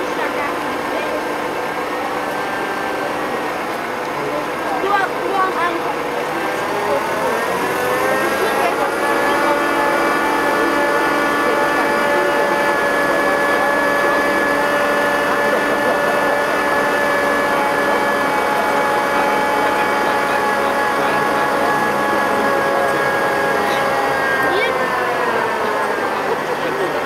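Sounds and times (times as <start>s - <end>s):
engine and winch droning: 0.0s - 27.0s
high whining tones: 1.2s - 27.0s.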